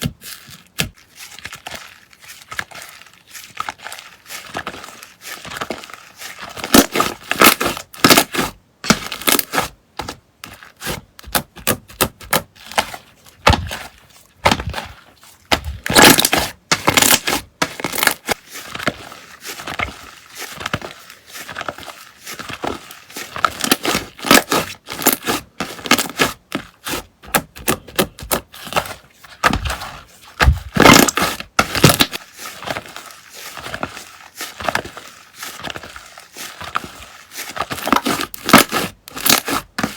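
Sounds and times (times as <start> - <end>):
slime squishing and crackling: 0.0 - 39.9.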